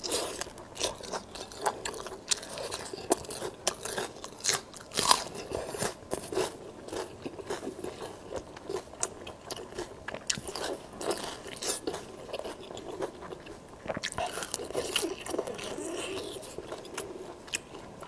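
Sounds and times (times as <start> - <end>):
person chewing crunchy food: 0.0 - 18.0.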